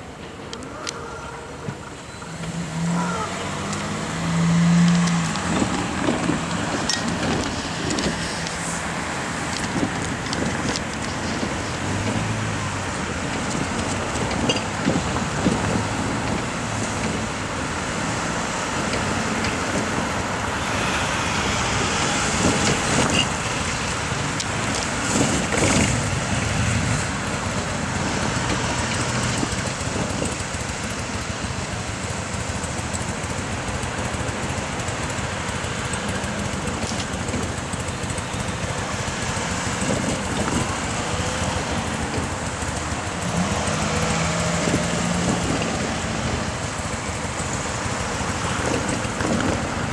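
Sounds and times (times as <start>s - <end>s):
road traffic noise: 0.0s - 49.9s.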